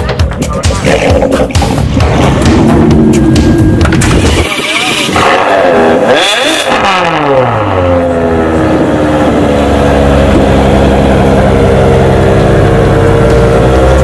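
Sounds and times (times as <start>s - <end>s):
car engine revving and idling: 0.3s - 14.0s.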